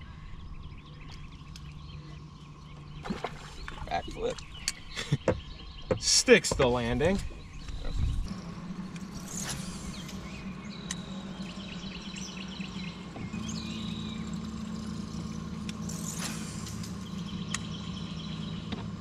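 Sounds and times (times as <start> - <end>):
birds twittering: 0.0 - 19.0
electric boat motor humming: 0.0 - 19.0.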